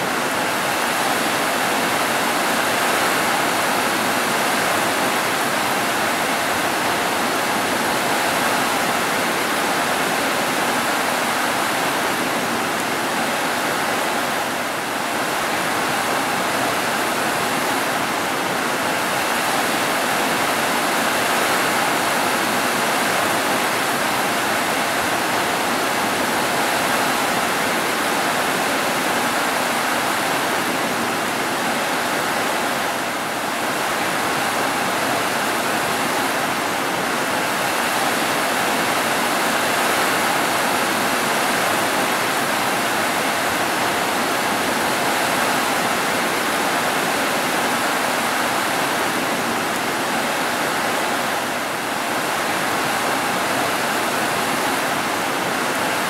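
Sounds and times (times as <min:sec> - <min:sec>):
rain pouring on roofs: 0:00.0 - 0:56.0.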